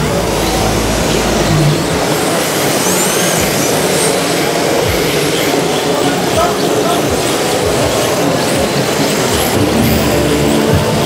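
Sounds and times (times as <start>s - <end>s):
exhibition hall din: 0.0s - 11.0s
high whine: 0.0s - 11.0s
radio-controlled cars running: 0.0s - 11.0s.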